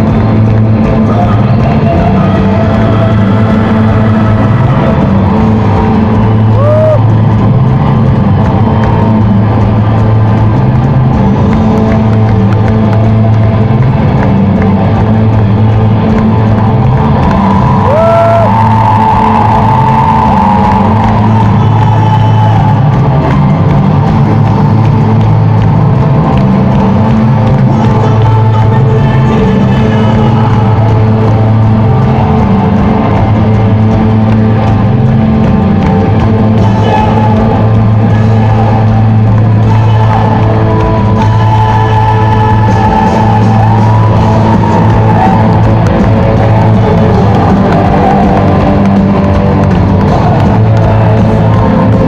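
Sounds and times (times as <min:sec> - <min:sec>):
crowd whooping: 0:00.0 - 0:52.0.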